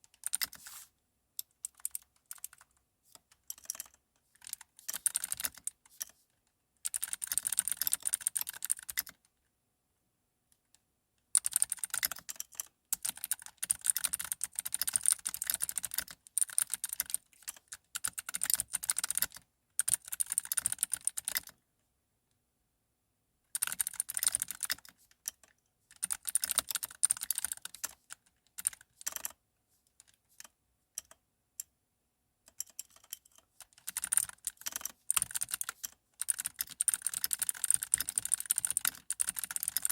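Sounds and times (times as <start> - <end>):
typing on computer keyboard: 0.0 - 0.8, 1.4 - 6.2, 6.8 - 9.2, 11.4 - 21.6, 23.6 - 29.4, 30.0 - 31.2, 32.5 - 39.9.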